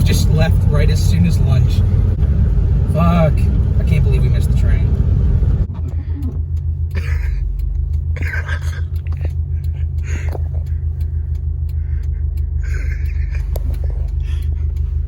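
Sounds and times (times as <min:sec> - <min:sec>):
car rumble inside cabin: 0:00.0 - 0:15.0.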